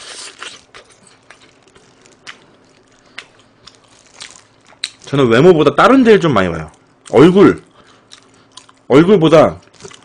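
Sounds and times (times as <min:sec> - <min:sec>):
crunching fried chicken: 0:00.0 - 0:10.0.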